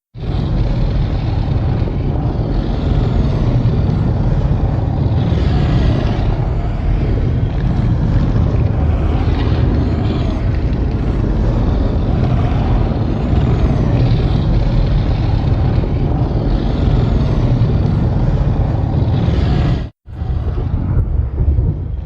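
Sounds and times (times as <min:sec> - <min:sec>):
loud low rumbling noise: 0:00.0 - 0:22.0.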